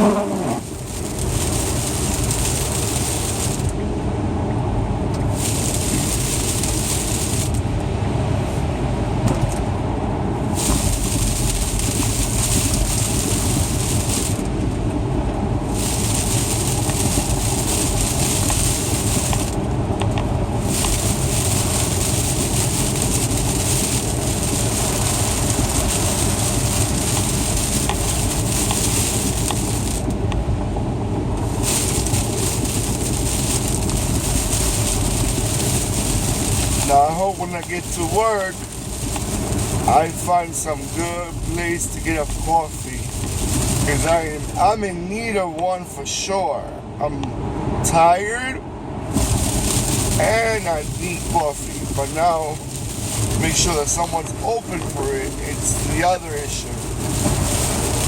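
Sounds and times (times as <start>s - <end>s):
car engine and tyres rumbling: 0.0s - 58.0s
road hiss: 0.0s - 58.0s.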